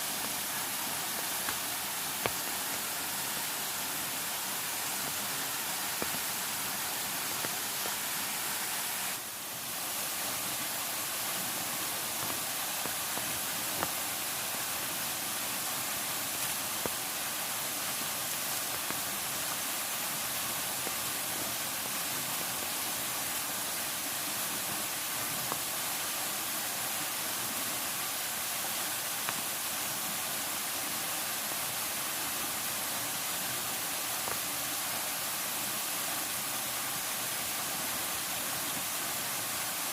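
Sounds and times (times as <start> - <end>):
water hissing: 0.0 - 39.9.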